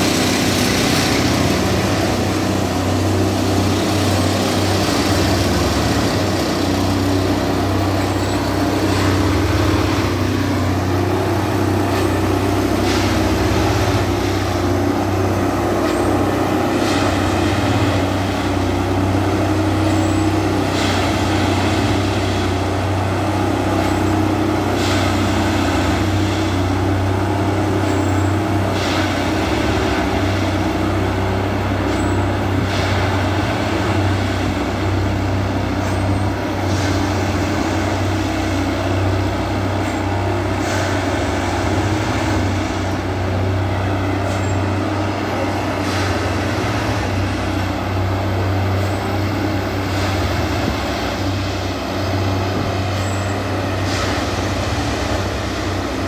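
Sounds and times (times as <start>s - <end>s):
track tamping machine drone: 0.0s - 56.0s.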